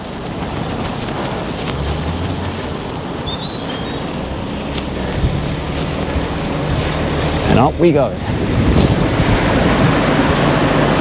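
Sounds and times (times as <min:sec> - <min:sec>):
low road and traffic rumble: 0:00.0 - 0:11.0
wind rushing over microphone: 0:00.0 - 0:11.0.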